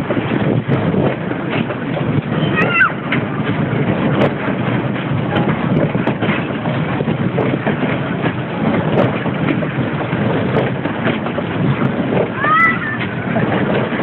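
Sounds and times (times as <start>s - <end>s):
clicks and clatters: 0.0s - 14.0s
mechanical din of ride: 0.0s - 14.0s.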